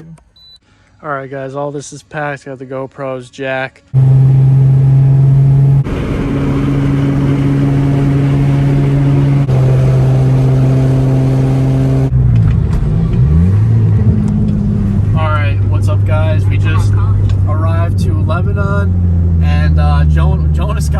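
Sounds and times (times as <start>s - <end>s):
car engine droning: 4.0s - 20.9s.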